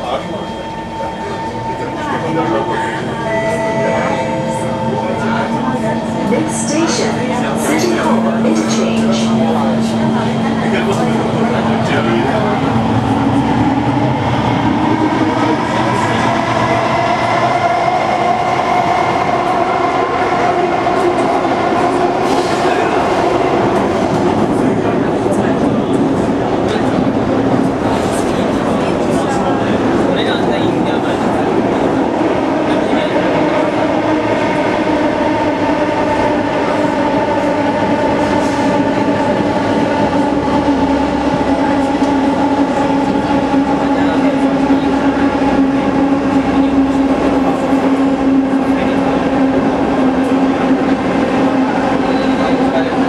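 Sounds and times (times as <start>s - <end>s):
steady train whine: 0.0s - 53.0s
train rumbling in tunnel: 0.0s - 53.0s.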